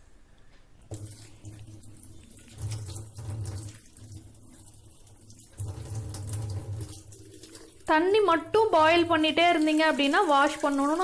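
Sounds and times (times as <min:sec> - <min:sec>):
tap water splashing in sink: 0:00.9 - 0:11.0.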